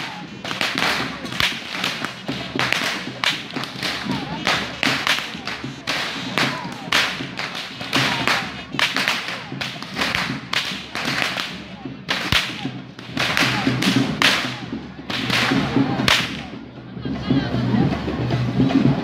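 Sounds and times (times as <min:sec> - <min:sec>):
whips cracking: 0:00.0 - 0:16.5.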